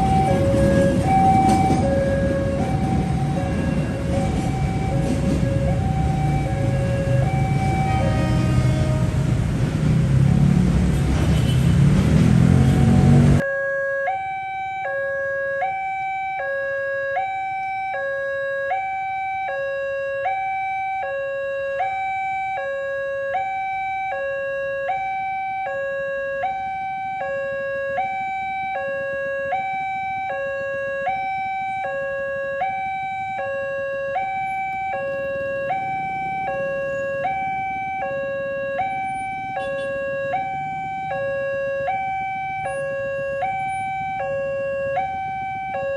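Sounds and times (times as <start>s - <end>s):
two-tone crossing alarm: 0.0s - 9.2s, 12.6s - 45.9s.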